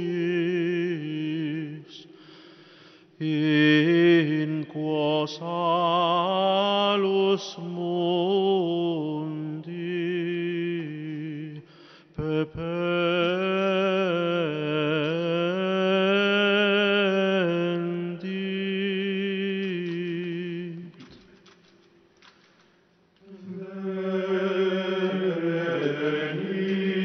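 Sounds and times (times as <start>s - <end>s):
man singing plainchant: 0.0s - 2.1s, 3.2s - 11.6s, 12.2s - 21.1s, 23.2s - 27.0s.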